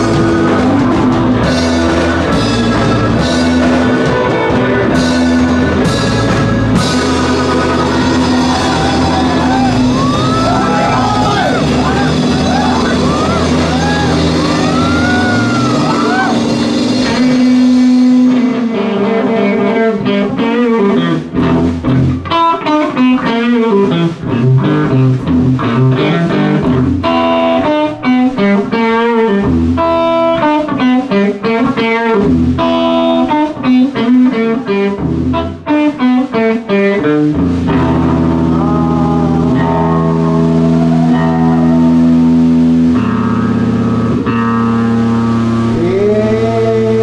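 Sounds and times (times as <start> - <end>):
bass guitar: 0.0 - 47.0.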